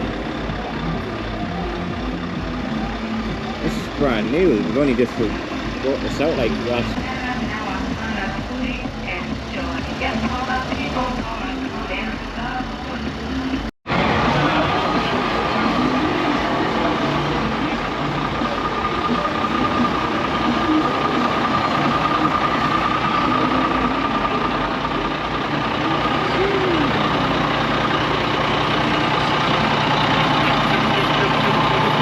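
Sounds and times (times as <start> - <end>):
people talking: 0.0 - 32.0
truck engine idling: 0.0 - 32.0.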